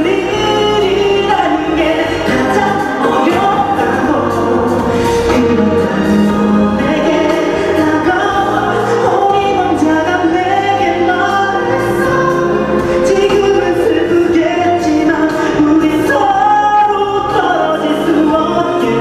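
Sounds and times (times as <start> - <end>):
instrumental accompaniment: 0.0 - 19.0
person singing pop ballad: 0.0 - 19.0.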